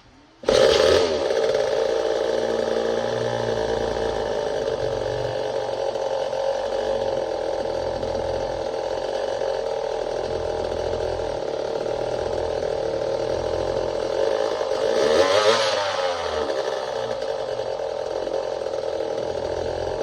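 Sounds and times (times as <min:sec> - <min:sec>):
chainsaw engine running: 0:00.4 - 0:20.0.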